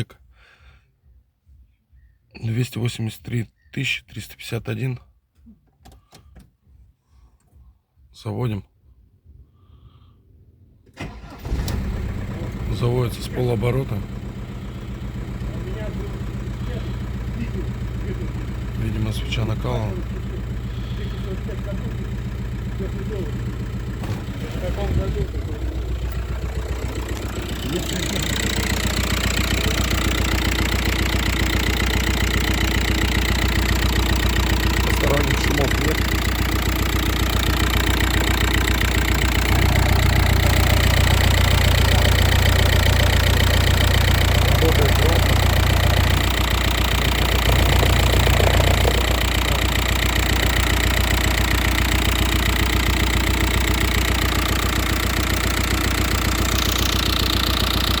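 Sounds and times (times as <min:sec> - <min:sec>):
diesel engine idling: 0:11.0 - 0:58.0.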